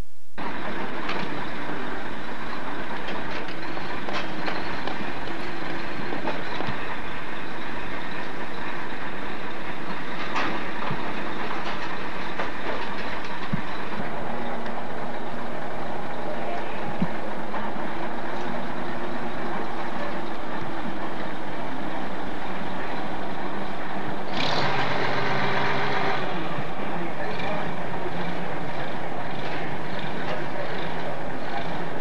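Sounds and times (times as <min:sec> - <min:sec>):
diesel truck engine running: 0:00.4 - 0:32.0
rattling clatter: 0:00.4 - 0:32.0.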